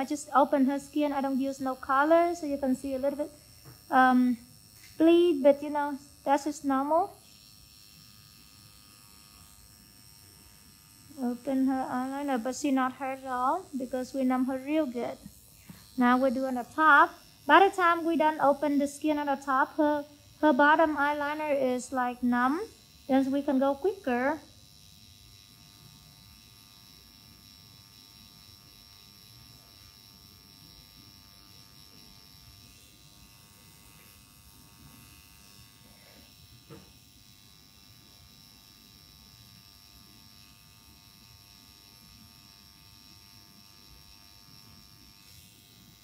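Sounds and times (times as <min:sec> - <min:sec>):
tattoo pen machine buzzing: 0:00.0 - 0:46.0.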